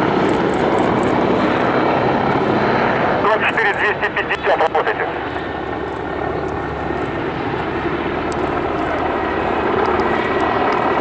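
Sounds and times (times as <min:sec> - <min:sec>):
helicopter flying past: 0:00.0 - 0:11.0
high turbine whine: 0:00.0 - 0:11.0.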